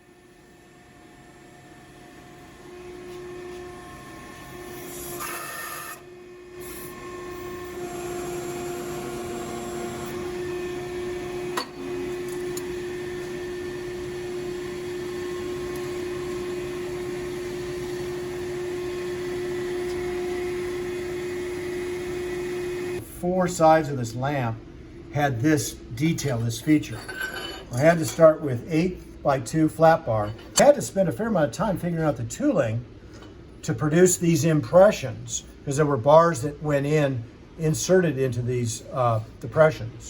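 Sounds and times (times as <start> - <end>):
shop machinery humming: 0.0 - 36.6.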